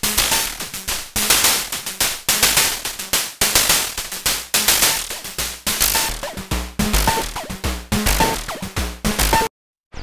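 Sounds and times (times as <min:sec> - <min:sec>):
electronic drum synthesizer pattern: 0:00.0 - 0:09.5.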